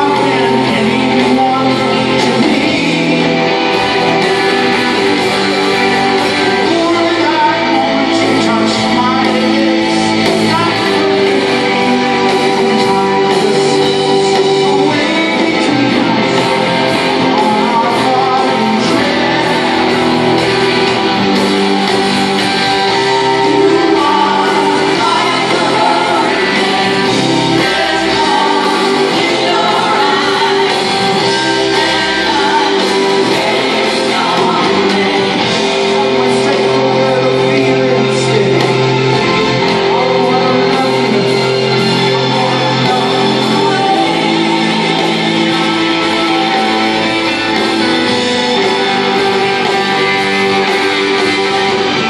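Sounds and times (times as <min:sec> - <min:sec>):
electric guitars: 0:00.0 - 0:52.0
live rock band in hall: 0:00.0 - 0:52.0
person singing: 0:00.0 - 0:52.0.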